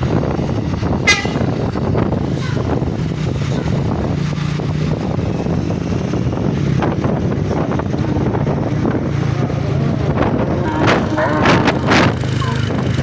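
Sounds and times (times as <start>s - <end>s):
vehicle engine humming: 0.0s - 13.0s
wind buffeting microphone: 0.0s - 13.0s.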